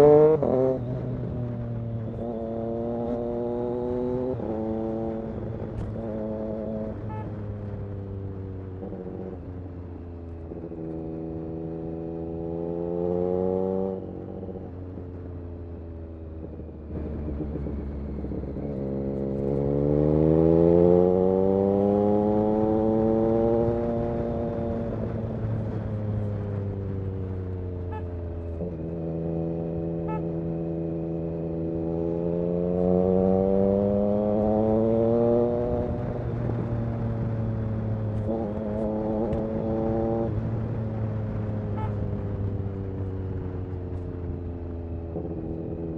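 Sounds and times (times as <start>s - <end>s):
motorcycle engine revving: 0.0s - 9.6s, 10.5s - 14.7s, 16.4s - 45.9s.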